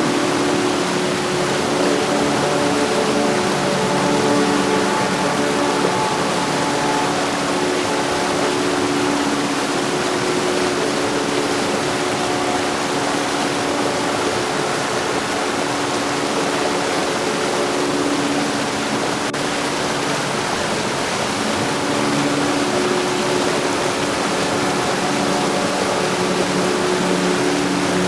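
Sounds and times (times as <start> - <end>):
faint steady humming tones: 0.0 - 28.0
heavy rain: 0.0 - 28.0.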